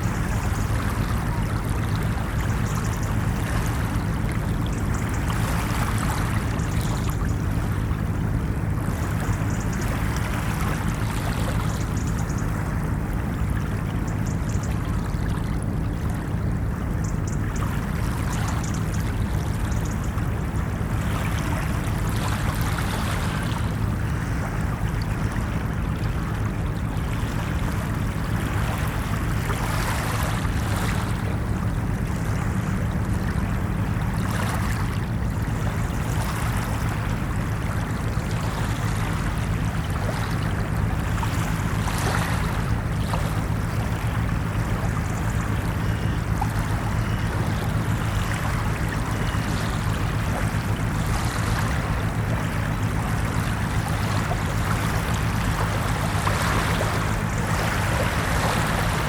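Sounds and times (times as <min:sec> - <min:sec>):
ocean surf washing on shore: 0:00.0 - 0:59.0.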